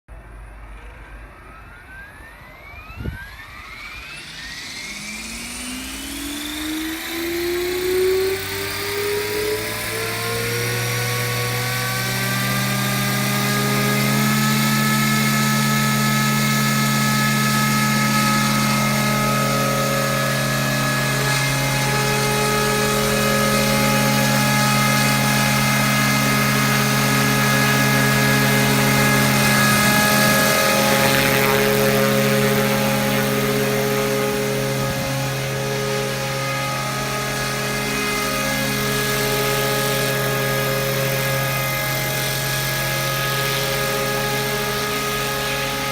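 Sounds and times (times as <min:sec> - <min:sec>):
model helicopter rotor whine: 0:00.1 - 0:45.9.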